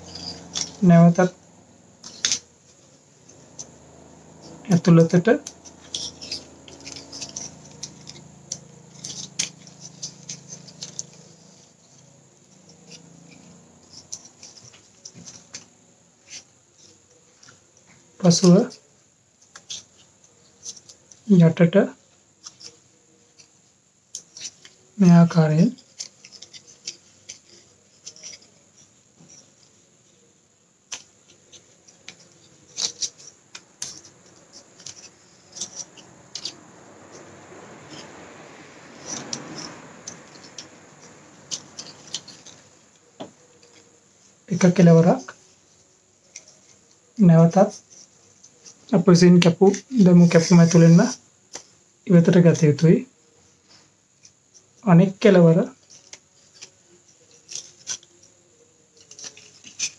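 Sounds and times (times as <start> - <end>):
leaf strips rustling and crinkling: 0.0 - 0.9, 1.8 - 21.3, 22.0 - 59.9.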